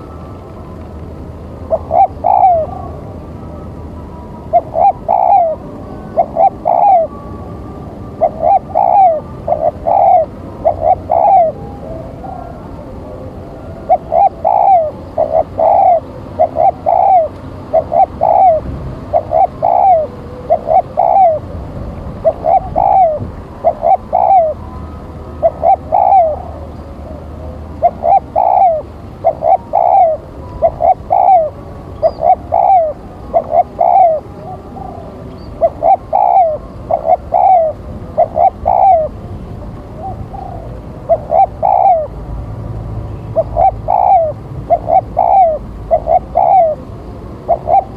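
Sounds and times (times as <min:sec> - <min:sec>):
dove cooing: 0:01.6 - 0:21.6, 0:22.2 - 0:42.2, 0:43.2 - 0:47.9.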